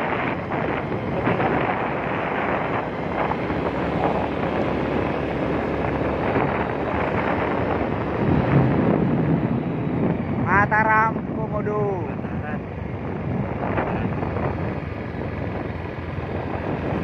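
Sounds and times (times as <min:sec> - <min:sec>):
scooter running and road noise: 0:00.0 - 0:17.0
wind rushing over microphone: 0:00.0 - 0:17.0.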